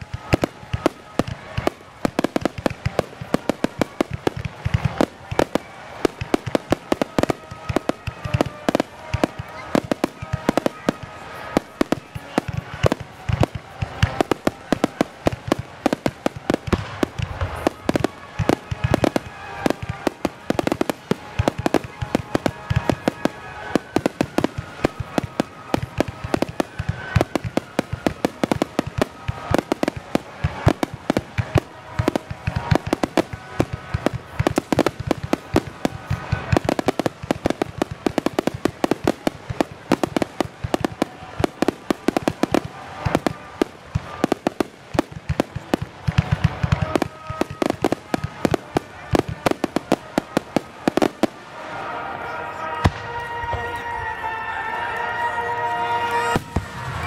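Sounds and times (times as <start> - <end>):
fireworks bursting: 0.0 - 57.0
fireworks crackling: 0.0 - 57.0.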